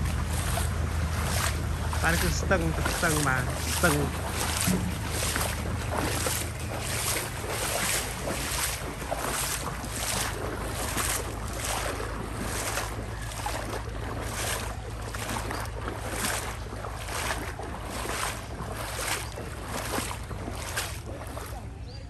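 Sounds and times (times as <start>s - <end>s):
floodwater splashing: 0.0s - 22.0s
low steady hum: 0.0s - 22.0s.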